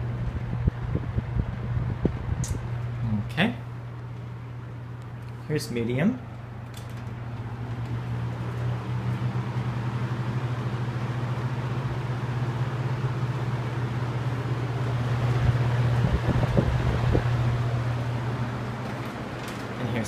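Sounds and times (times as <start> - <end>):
fan motor hum and air rush: 0.0 - 20.0.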